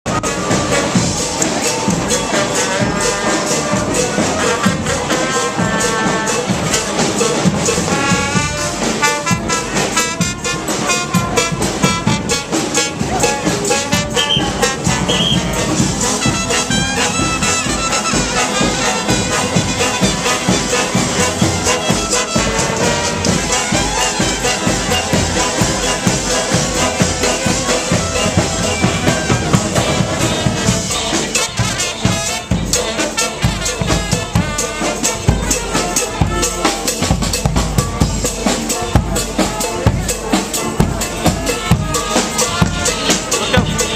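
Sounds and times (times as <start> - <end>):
drums keeping a steady beat: 0.0 - 43.9
trumpets and trombones: 0.1 - 43.9.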